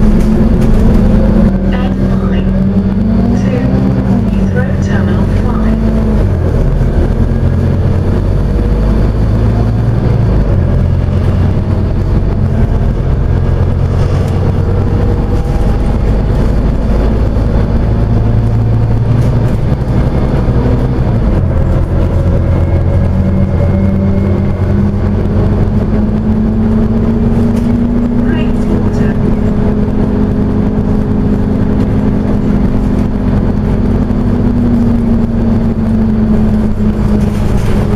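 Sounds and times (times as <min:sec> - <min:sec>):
bus diesel engine running: 0:00.0 - 0:37.9
road noise: 0:00.0 - 0:37.9.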